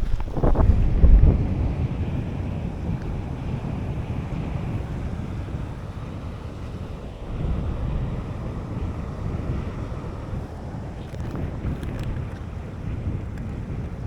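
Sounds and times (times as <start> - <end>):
surf washing: 0.0 - 14.0
wind buffeting microphone: 0.0 - 14.0.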